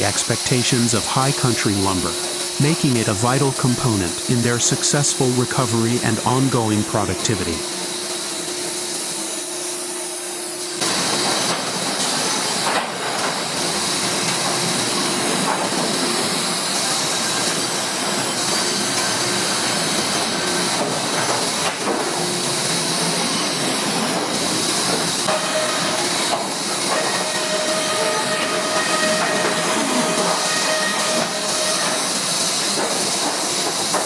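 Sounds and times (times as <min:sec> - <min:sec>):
sawmill machinery hissing: 0:00.0 - 0:34.0.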